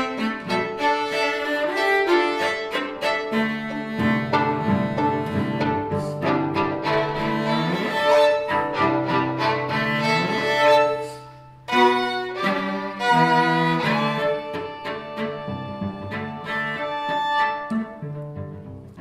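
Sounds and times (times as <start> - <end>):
violin playing quick notes: 0.0 - 17.9
cello holding low note: 0.0 - 19.0.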